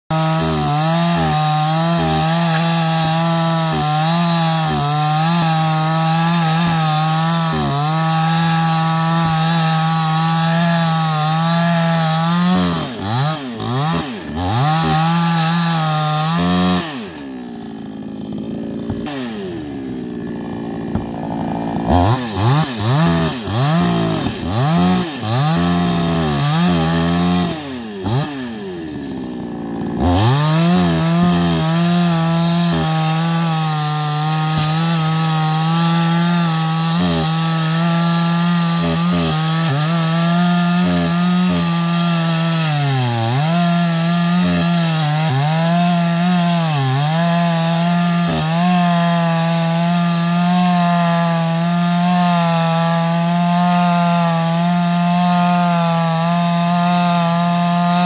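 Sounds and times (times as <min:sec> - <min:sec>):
chainsaw cutting and revving: 0:00.0 - 0:58.0.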